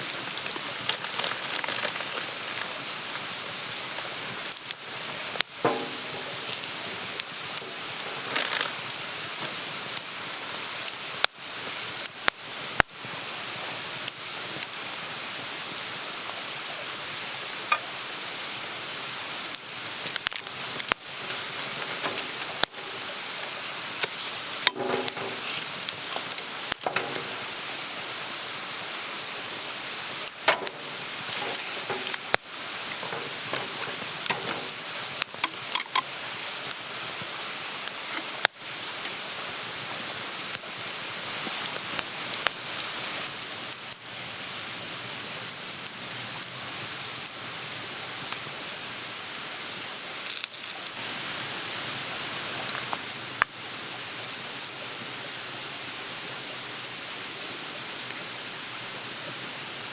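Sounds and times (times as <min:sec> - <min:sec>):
wood crackling and popping: 0:00.0 - 0:53.6
campfire hissing: 0:00.0 - 0:59.9.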